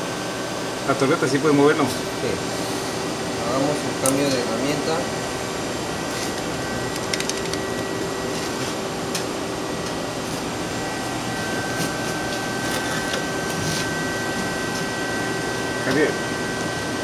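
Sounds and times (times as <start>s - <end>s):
steady whine: 0.0s - 17.0s
hydraulic pump hum: 1.5s - 17.0s.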